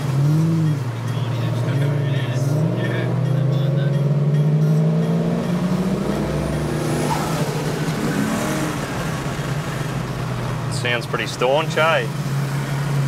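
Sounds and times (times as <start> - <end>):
turbocharged car engine droning: 0.0 - 13.0.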